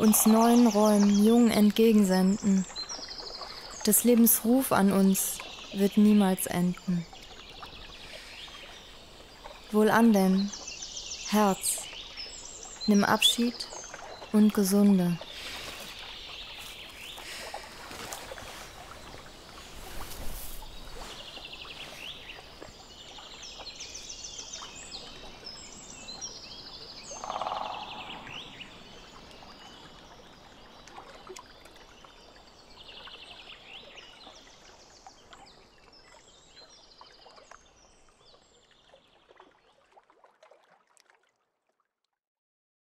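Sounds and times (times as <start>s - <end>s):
small birds chirping: 0.0s - 38.5s
water trickling: 0.0s - 42.0s.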